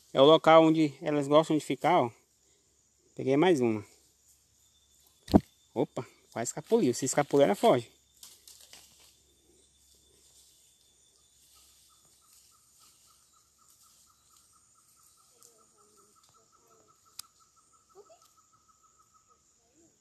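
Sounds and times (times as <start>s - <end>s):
faint outdoor creek ambience: 0.0s - 20.0s
repeating faint chirp: 0.0s - 20.0s.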